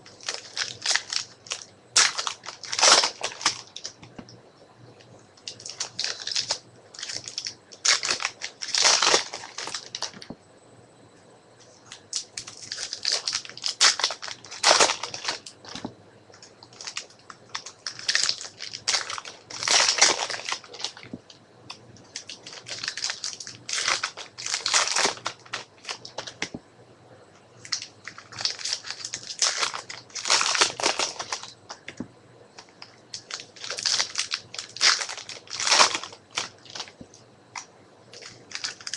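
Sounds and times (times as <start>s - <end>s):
trading cards rustling: 0.1s - 4.2s, 5.4s - 10.3s, 11.9s - 21.3s, 22.0s - 26.6s, 27.6s - 32.0s, 32.6s - 37.1s, 38.1s - 38.9s.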